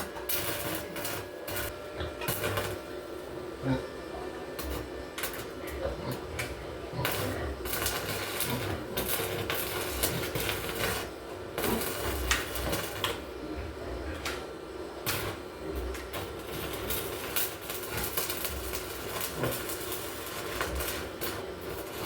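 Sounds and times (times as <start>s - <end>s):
arc welding crackle: 0.0s - 22.0s.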